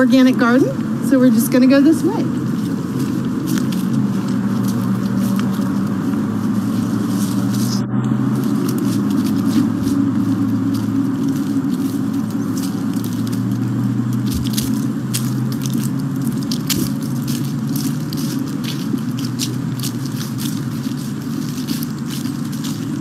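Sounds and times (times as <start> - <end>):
footsteps on gravel and dry leaves: 0.0 - 23.0
steady low hum: 0.0 - 23.0.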